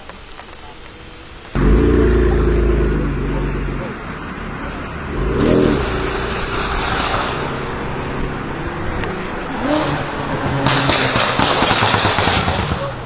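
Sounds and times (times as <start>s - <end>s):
exhaust crackles and pops: 0.0s - 13.0s
car engine revving: 1.0s - 13.0s.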